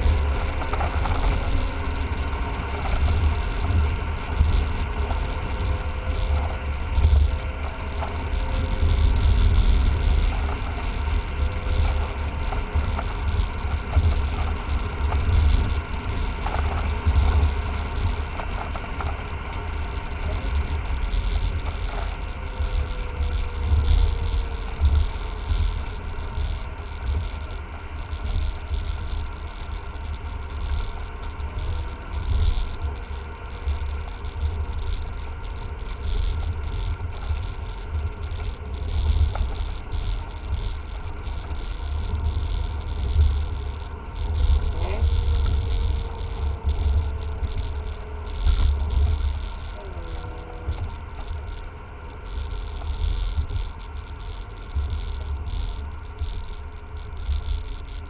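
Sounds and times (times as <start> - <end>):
car cabin road and engine rumble: 0.0 - 58.0
engine tone sliding up and down: 0.0 - 58.0.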